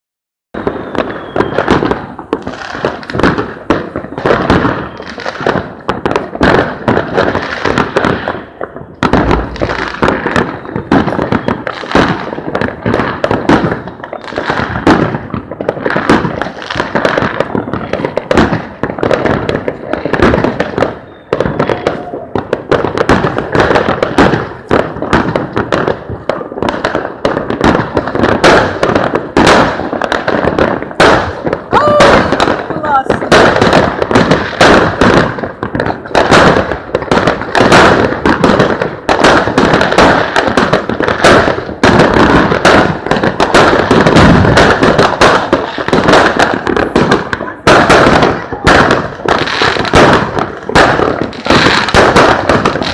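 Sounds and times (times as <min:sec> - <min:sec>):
fireworks barrage: 0:00.6 - 0:52.9.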